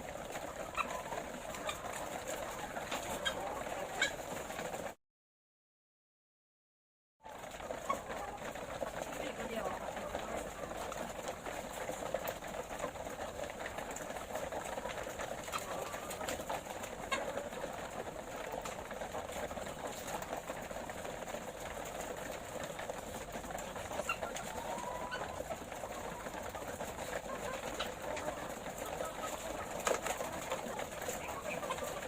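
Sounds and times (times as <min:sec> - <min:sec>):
hens clucking: 0:00.0 - 0:05.0, 0:07.2 - 0:32.0.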